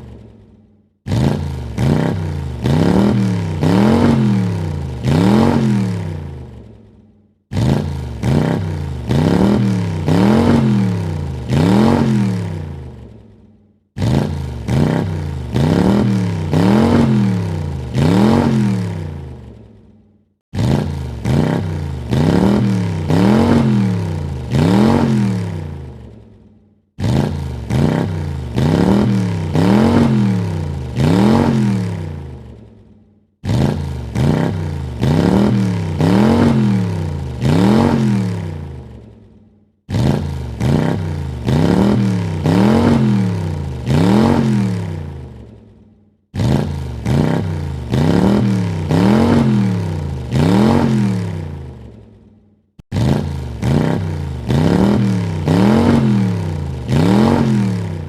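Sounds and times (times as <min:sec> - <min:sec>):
car engine revving: 0:01.0 - 0:06.7, 0:07.5 - 0:13.3, 0:14.0 - 0:19.7, 0:20.5 - 0:26.3, 0:27.0 - 0:32.6, 0:33.4 - 0:39.1, 0:39.9 - 0:45.6, 0:46.4 - 0:52.0, 0:52.8 - 0:58.0.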